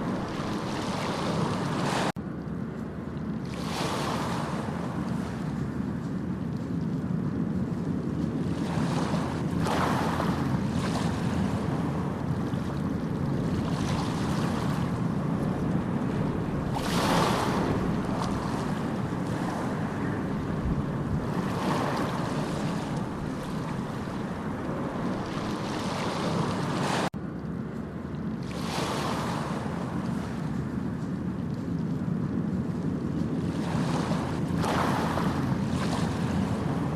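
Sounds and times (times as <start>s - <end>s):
ocean waves washing: 0.0s - 27.2s, 28.0s - 36.9s
low surf rumble: 0.0s - 36.9s.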